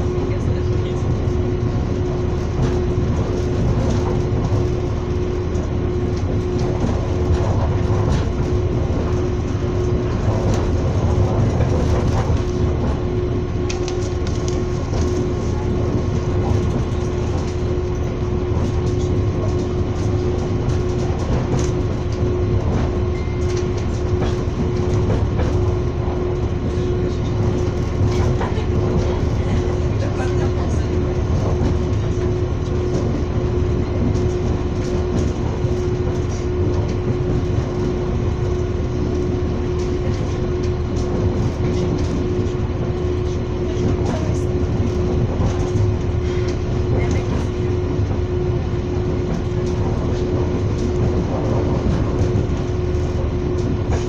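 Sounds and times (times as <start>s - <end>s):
constant hum: 0.0s - 54.0s
train wheels rumbling on rails: 0.0s - 54.0s.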